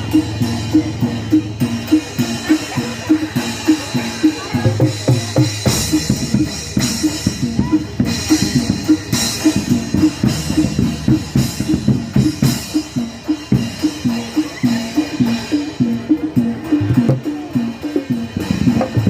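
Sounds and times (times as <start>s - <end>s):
fast hand drum strokes: 0.0s - 19.0s
pitched metal percussion figure: 0.0s - 19.0s
sharp high percussion hit: 0.0s - 19.0s.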